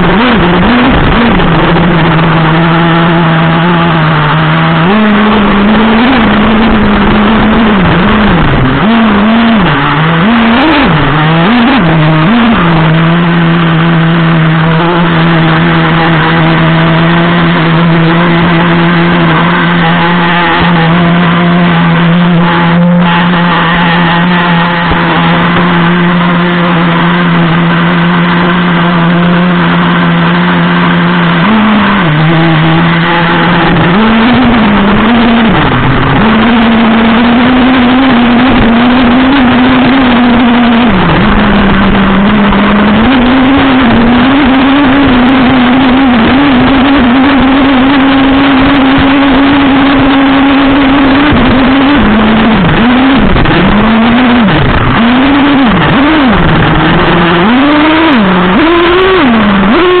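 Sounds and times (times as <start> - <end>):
nitro engine revving: 0.0 - 60.0.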